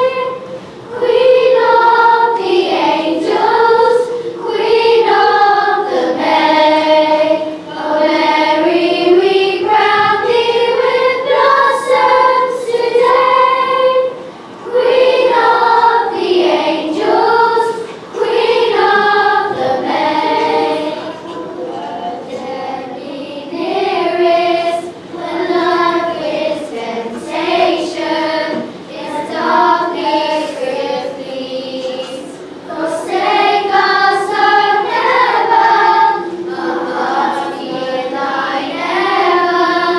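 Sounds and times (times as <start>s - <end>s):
children singing a hymn: 0.0s - 39.9s.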